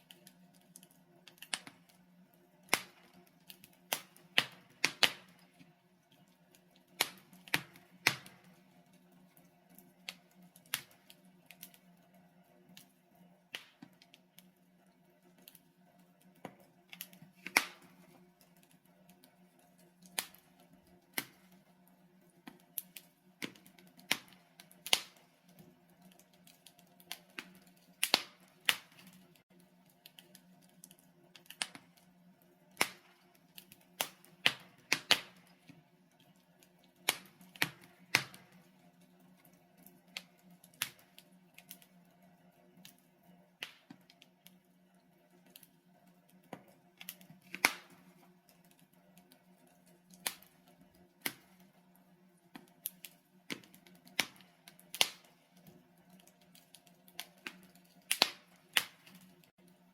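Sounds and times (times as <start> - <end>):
logs crackling and popping: 0.0 - 59.8.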